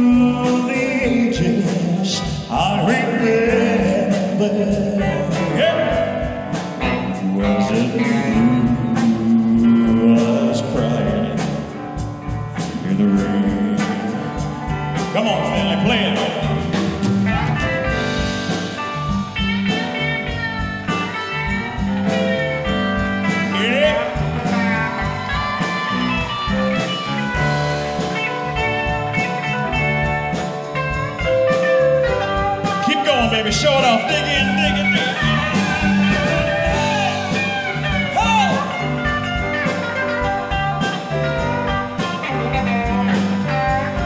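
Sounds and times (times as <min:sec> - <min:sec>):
person singing: 0:00.0 - 0:12.0, 0:12.6 - 0:18.0, 0:20.9 - 0:44.0
electric guitar lead: 0:00.0 - 0:44.0
live band playing country ballad: 0:00.0 - 0:44.0.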